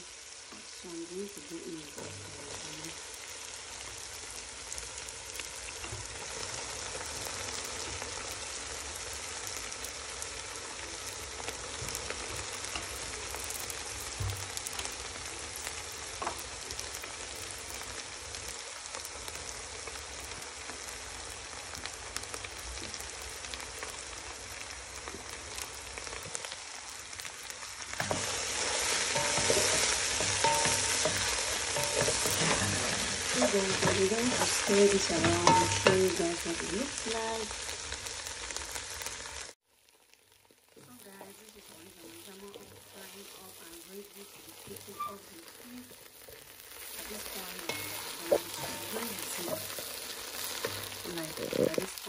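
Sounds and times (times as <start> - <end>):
leaves frying in oil: 0.0 - 52.0.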